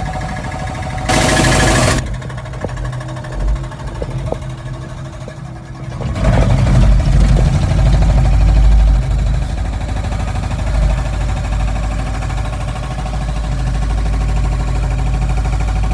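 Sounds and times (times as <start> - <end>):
excavator diesel engine running: 0.0 - 15.9.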